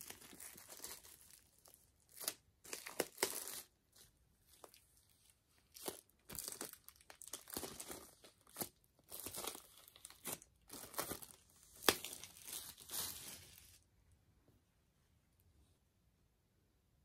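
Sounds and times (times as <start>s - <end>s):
plastic shrink wrap crinkling: 0.0s - 13.8s.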